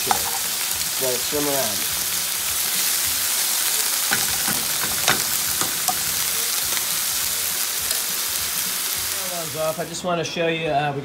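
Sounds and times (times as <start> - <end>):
spinach sizzling in pan: 0.0 - 10.2.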